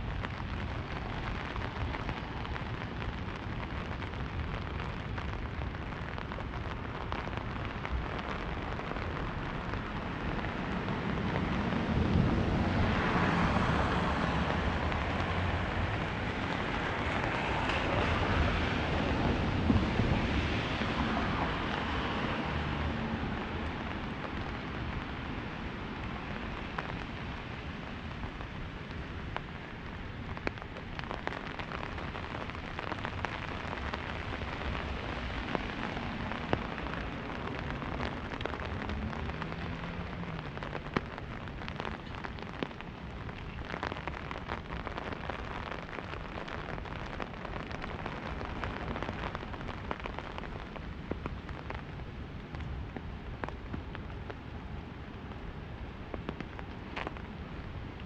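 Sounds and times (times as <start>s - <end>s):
rain hissing on umbrella: 0.0s - 58.0s
raindrops ticking on canopy: 0.0s - 58.0s.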